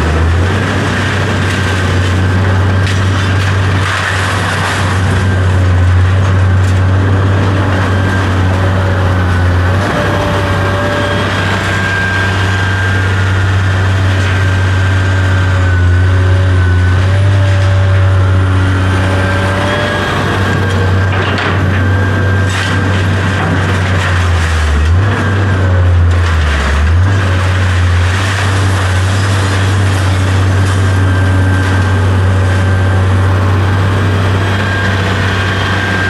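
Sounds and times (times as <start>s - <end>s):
heavy machinery engine drone: 0.0s - 36.0s.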